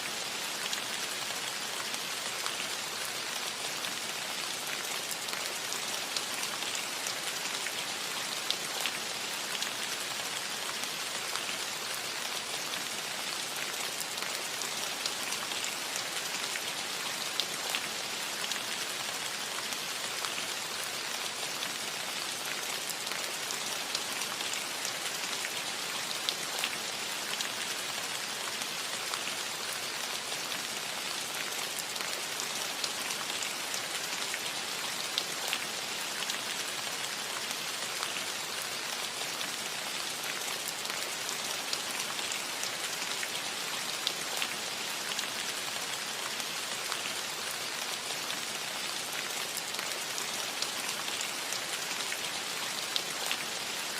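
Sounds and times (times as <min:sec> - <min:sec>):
rain falling on a roof: 0:00.0 - 0:53.9.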